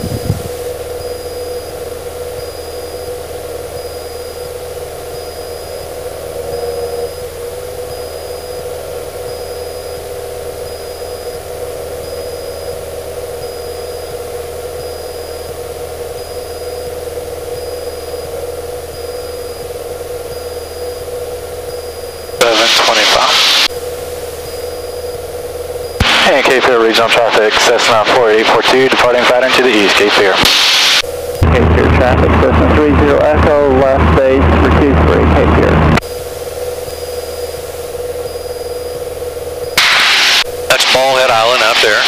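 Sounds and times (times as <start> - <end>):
airplane engine droning: 0.0 - 42.0.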